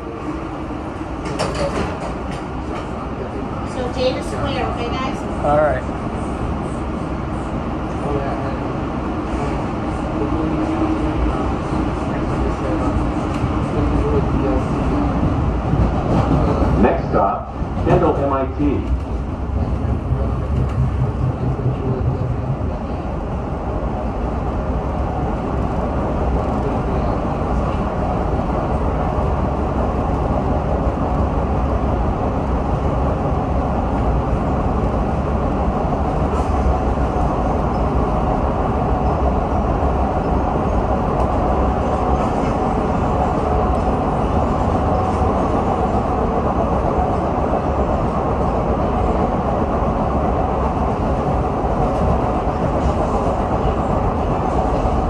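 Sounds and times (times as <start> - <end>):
train passing alongside: 0.0 - 55.0
train wheels rumbling on rail: 0.0 - 55.0.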